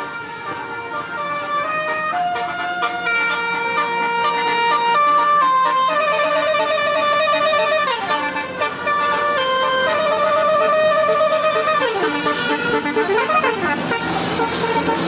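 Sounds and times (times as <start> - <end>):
musical bus horn tune: 0.0 - 15.0.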